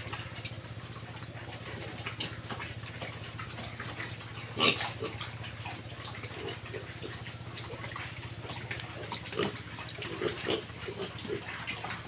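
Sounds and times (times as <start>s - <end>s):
pig grunts: 0.0s - 12.0s
piglets snuffling and chewing: 0.0s - 12.0s.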